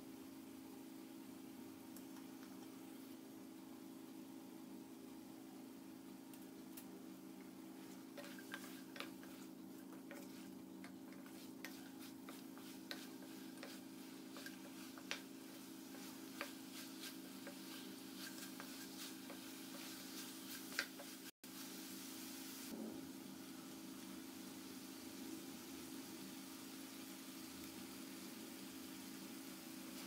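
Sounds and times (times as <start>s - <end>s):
faint sizzle: 0.0s - 30.0s.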